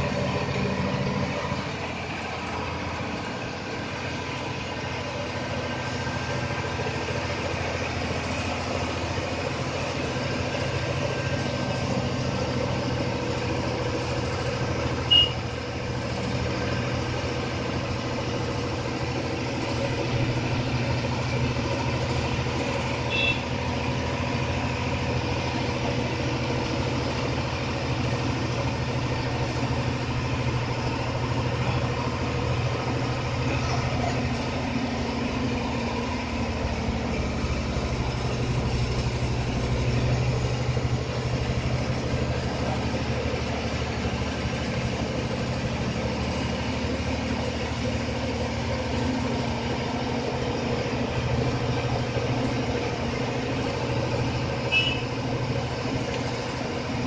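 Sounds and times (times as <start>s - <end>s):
bus engine humming: 0.0s - 57.0s
road noise: 0.0s - 57.0s.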